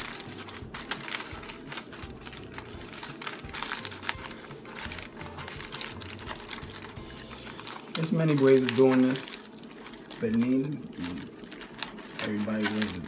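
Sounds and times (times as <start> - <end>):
aluminum foil crinkling: 0.0 - 13.0.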